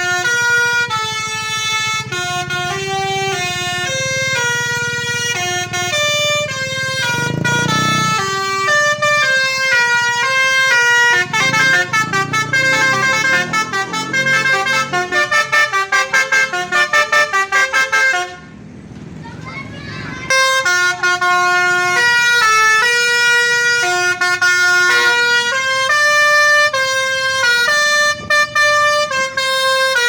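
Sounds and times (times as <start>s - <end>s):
musical bus horn tune: 0.0s - 18.6s, 20.3s - 30.0s.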